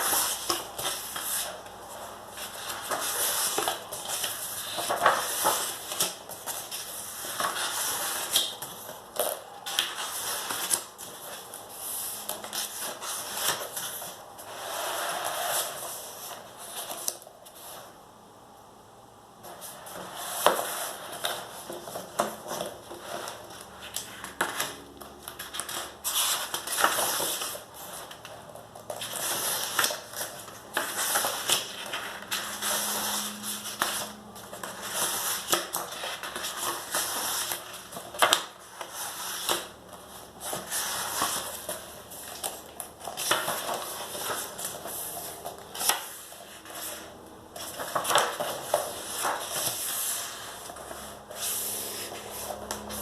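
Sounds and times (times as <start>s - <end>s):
paper pages rustling: 0.0s - 17.8s, 19.4s - 53.0s.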